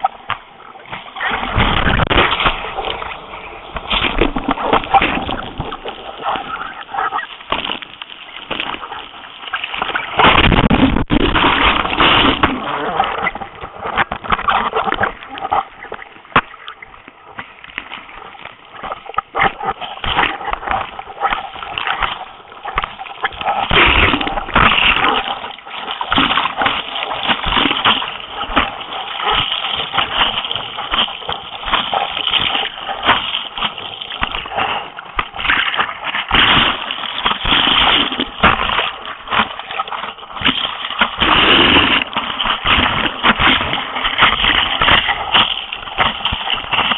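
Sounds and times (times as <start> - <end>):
water splashing over a board: 0.0 - 46.9.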